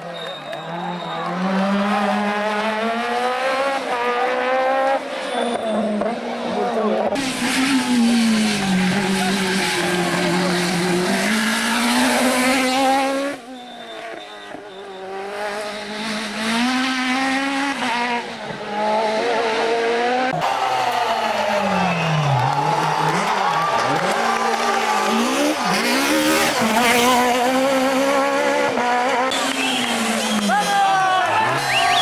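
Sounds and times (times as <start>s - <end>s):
distant car engine: 0.0s - 32.0s
rally car engines revving: 0.0s - 32.0s.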